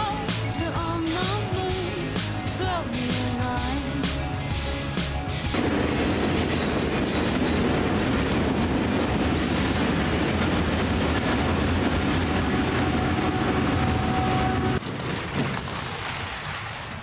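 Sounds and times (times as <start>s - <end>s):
freight train rumbling and rattling: 0.0s - 17.0s.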